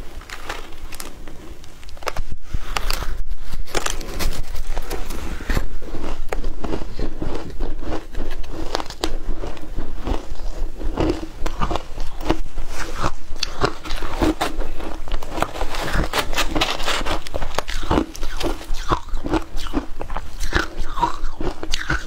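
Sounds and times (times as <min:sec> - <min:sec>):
ice crunching being chewed: 0:00.1 - 0:22.0.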